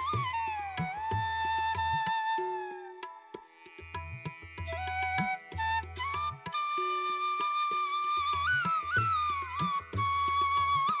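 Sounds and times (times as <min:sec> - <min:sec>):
flute long note: 0:00.0 - 0:03.3, 0:04.8 - 0:11.0.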